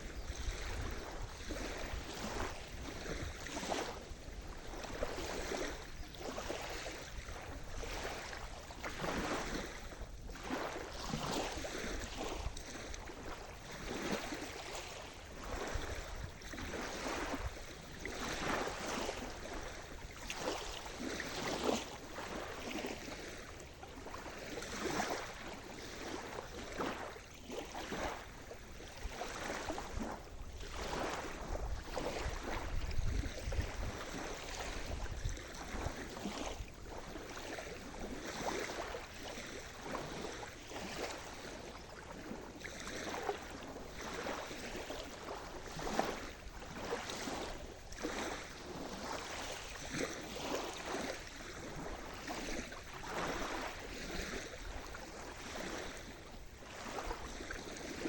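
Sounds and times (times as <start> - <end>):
small waves splashing: 0.0 - 58.0.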